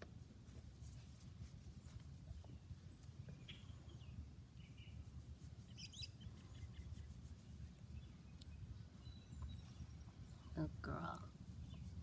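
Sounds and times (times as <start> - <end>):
faint birds chirping: 0.0 - 12.0
low outdoor rumble: 0.0 - 12.0.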